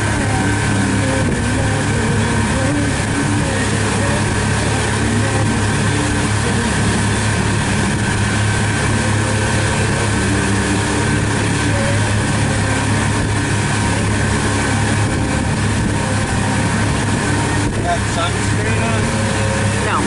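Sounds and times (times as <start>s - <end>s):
outboard motor humming: 0.0s - 20.0s
wind and water rushing: 0.0s - 20.0s.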